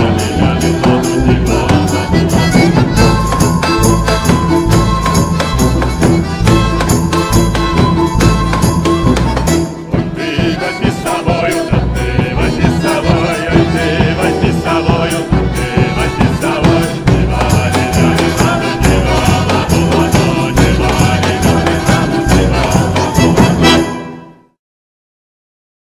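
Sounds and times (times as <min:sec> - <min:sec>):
percussion quick steady beat: 0:00.0 - 0:24.0
mixed folk choir singing: 0:00.0 - 0:24.2
instrumental accompaniment: 0:00.0 - 0:24.6.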